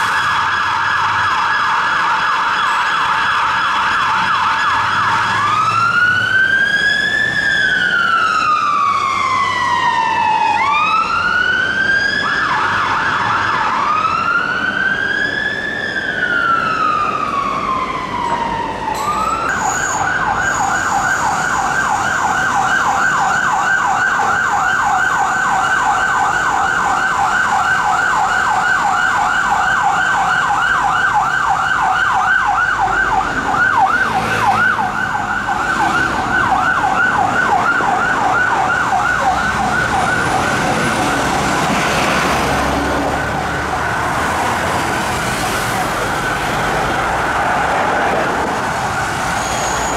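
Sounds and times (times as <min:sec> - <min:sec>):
emergency vehicle siren: 0:00.0 - 0:49.9.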